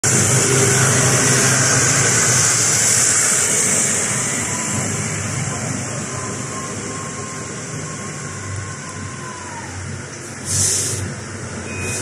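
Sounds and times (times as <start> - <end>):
backhoe loader diesel engine: 0.0 - 12.0.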